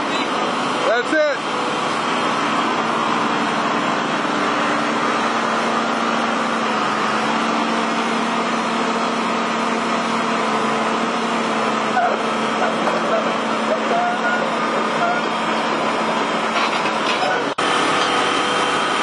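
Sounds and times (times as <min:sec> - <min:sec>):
water pump engine droning: 0:00.0 - 0:19.0.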